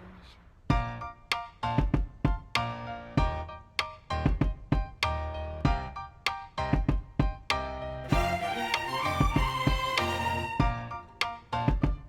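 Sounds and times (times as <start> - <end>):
instrumental music with beat: 0.7 - 12.0.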